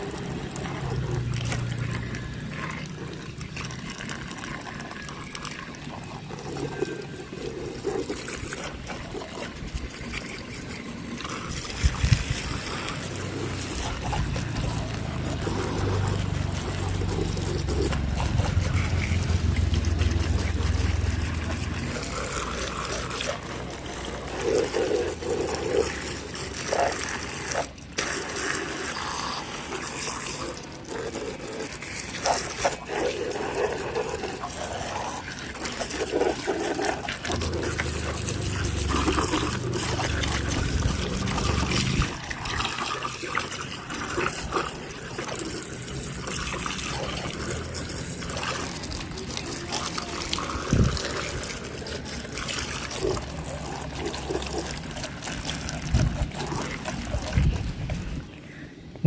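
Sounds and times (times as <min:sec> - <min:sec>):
water splashing and trickling: 0:00.0 - 0:59.0.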